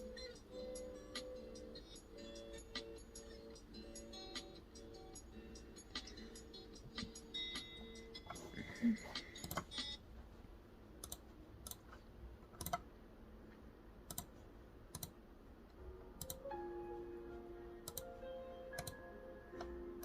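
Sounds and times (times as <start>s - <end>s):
faint held musical tones: 0.0s - 20.0s.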